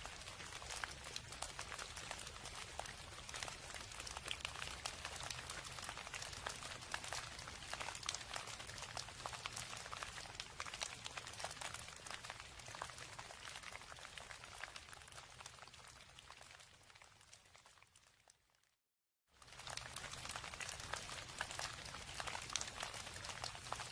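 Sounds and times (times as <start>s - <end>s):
rain falling: 0.0s - 15.7s, 19.4s - 23.9s.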